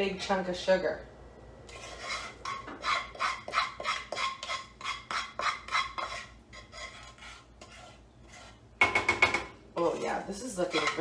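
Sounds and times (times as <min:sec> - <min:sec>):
utensil scraping saucepan: 0:01.7 - 0:11.0.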